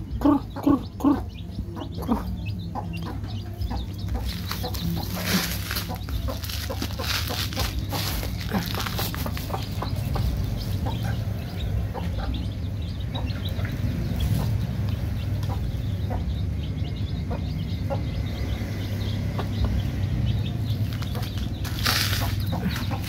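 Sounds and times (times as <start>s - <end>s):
chicks peeping: 0.0s - 23.0s
hen clucking: 0.0s - 23.0s
steady low rumble: 0.0s - 23.0s.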